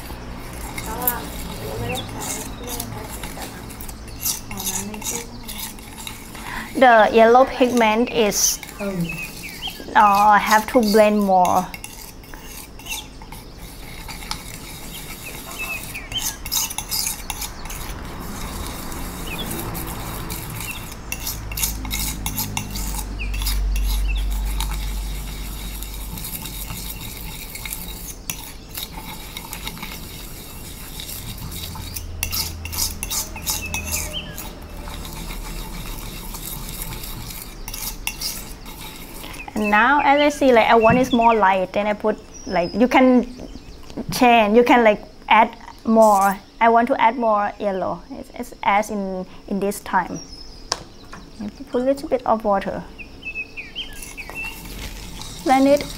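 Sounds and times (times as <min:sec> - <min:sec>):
metal spoon scraping ceramic tile: 0:00.0 - 0:42.0, 0:45.9 - 0:46.5, 0:53.5 - 0:55.9.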